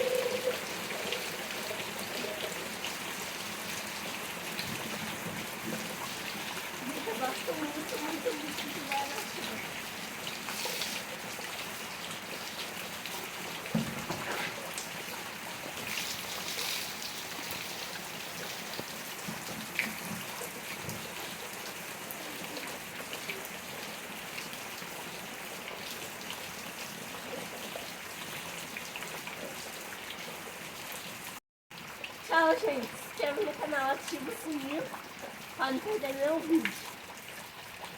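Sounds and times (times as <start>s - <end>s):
steady rain patter: 0.0s - 37.9s.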